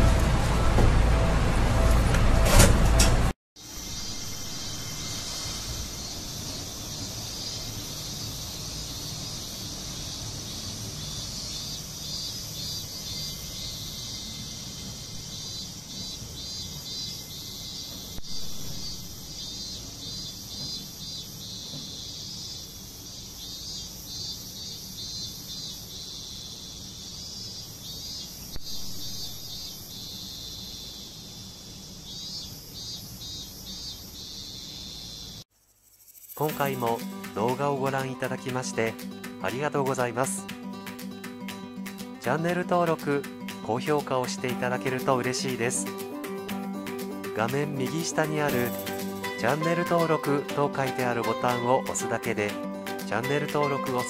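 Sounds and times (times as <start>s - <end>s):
insects chirping: 3.6s - 54.0s.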